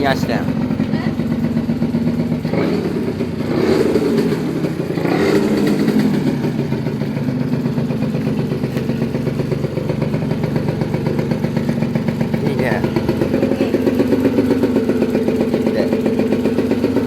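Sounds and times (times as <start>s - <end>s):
engine throttle blips: 0.0s - 17.0s
two-stroke engine idling: 0.0s - 17.0s.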